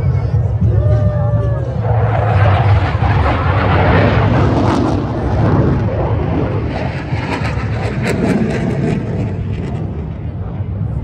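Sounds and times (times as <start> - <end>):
jet engines rumbling overhead: 0.0 - 11.0.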